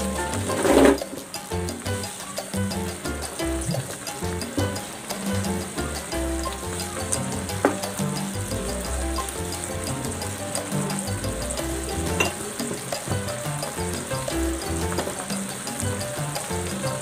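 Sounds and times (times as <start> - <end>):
sauce sizzling in a pan: 0.0 - 17.0.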